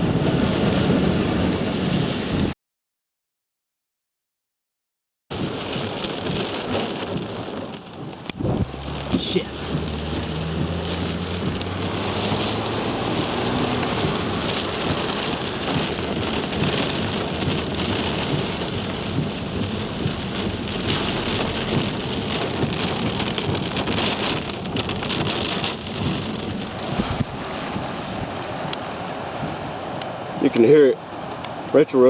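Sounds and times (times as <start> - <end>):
heavy rain drumming on vehicle: 0.0 - 2.5, 5.3 - 32.0.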